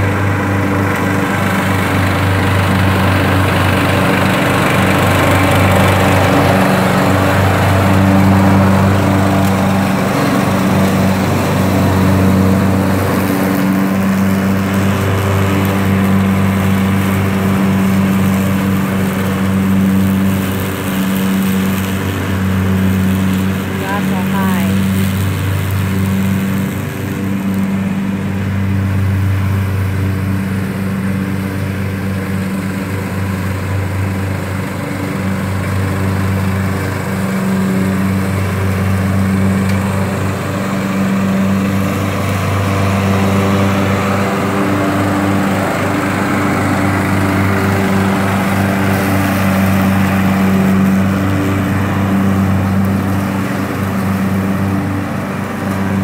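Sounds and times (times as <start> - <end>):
lawn tractor engine running: 0.0 - 56.0
mower cutting grass: 0.0 - 56.0.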